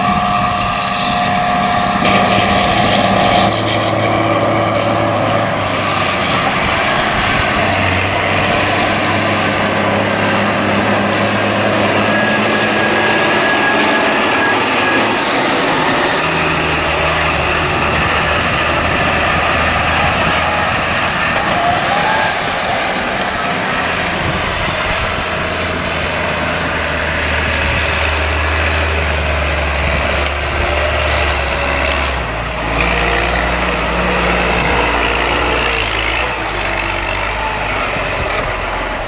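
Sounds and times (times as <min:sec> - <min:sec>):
tractor engines running: 0:00.0 - 0:39.0.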